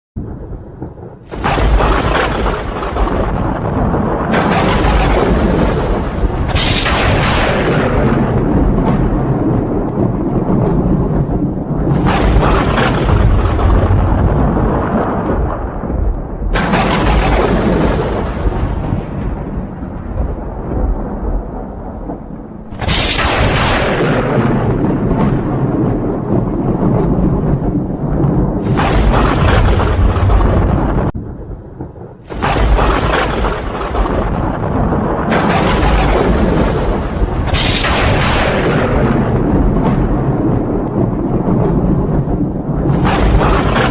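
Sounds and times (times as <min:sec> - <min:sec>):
low thunder rumble: 0:00.2 - 0:43.9
sharp thunder claps: 0:00.2 - 0:43.9.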